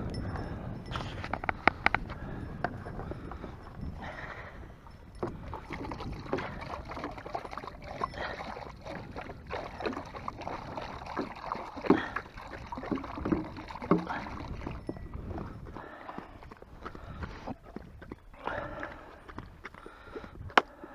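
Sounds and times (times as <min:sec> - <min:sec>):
dogs lapping water: 0:00.0 - 0:20.9.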